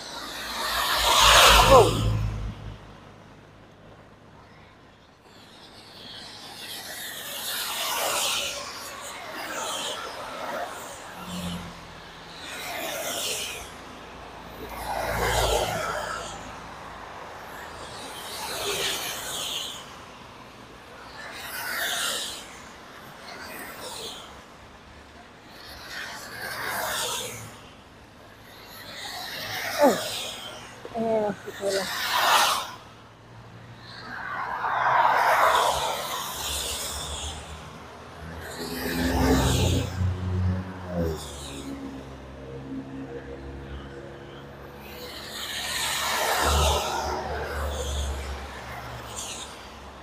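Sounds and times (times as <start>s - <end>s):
car tyres on wet road: 5.6s - 42.9s, 43.5s - 50.0s.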